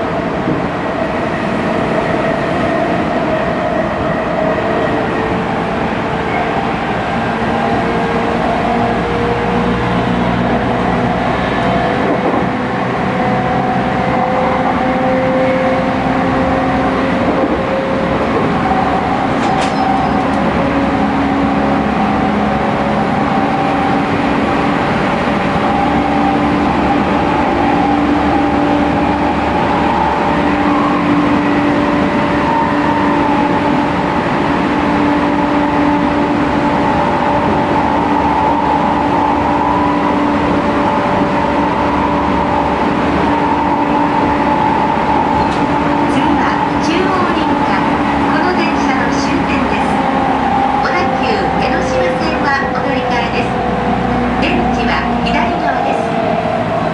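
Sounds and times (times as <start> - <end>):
traction motors humming and whining: 0.0 - 56.9
wheels rumbling on rail: 0.0 - 56.9.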